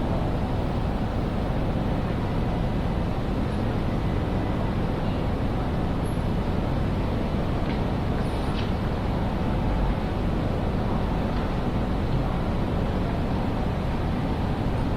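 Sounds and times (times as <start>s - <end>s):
station hall low rumble: 0.0s - 14.9s.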